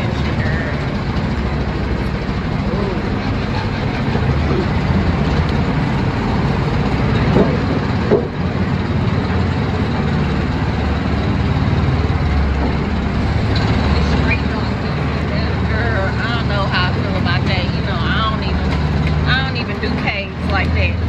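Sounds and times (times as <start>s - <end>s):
buggy engine running: 0.0s - 21.0s.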